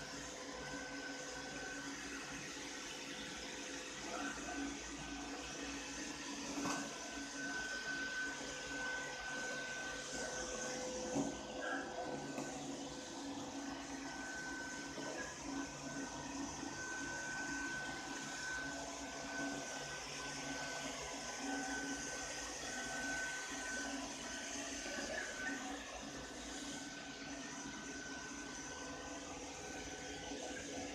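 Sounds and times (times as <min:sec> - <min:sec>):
robot vacuum cleaner whirring: 0:00.0 - 0:30.9.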